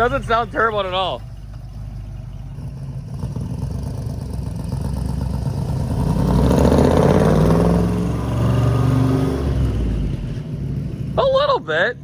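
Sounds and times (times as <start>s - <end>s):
truck exhaust accelerating: 0.0s - 12.0s.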